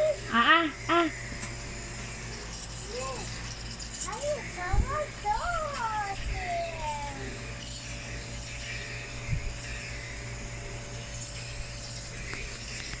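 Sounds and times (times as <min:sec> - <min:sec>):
nebulizer electric buzz: 0:00.0 - 0:13.0.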